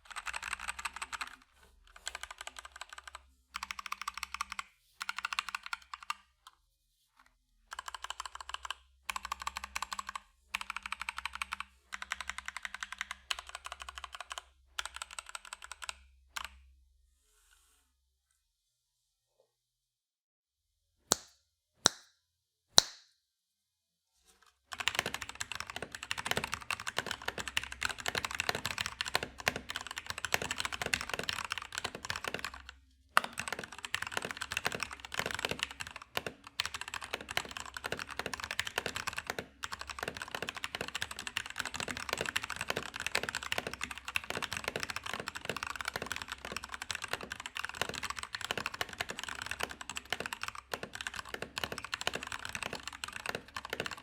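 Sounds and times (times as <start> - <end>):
mechanical keyboard typing: 0.0 - 6.3, 7.7 - 16.6, 24.7 - 54.0.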